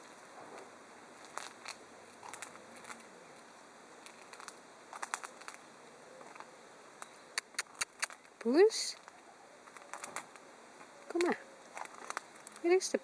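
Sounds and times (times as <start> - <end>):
faint rustles: 0.0 - 13.0
quiet hiss: 0.0 - 13.0.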